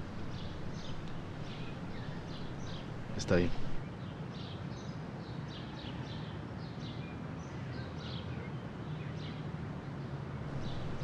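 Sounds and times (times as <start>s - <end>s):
low outdoor background noise: 0.0s - 11.0s
small birds chirping: 0.0s - 11.0s.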